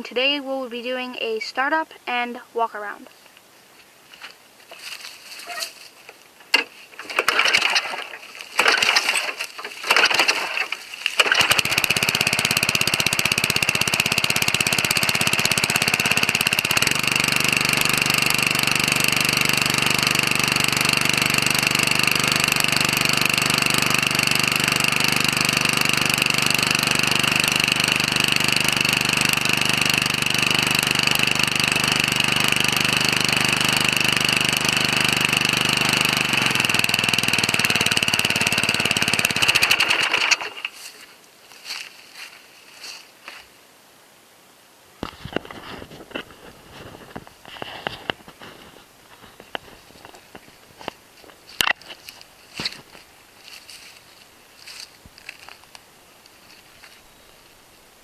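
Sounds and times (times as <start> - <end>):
lawn mower engine pull-starting: 4.8 - 43.4, 45.0 - 57.7
lawn mower engine running: 5.0 - 43.4, 45.0 - 58.0.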